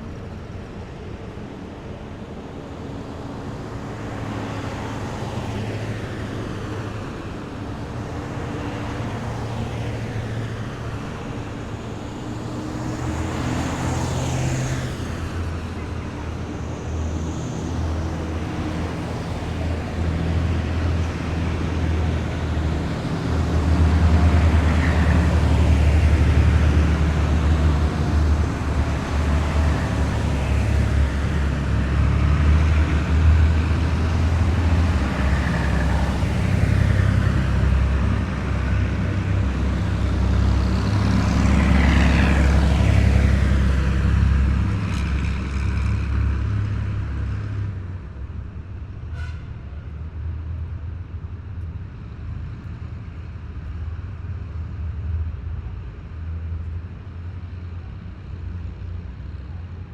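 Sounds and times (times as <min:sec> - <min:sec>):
heavy vehicle engines rumbling: 0:00.0 - 0:59.9.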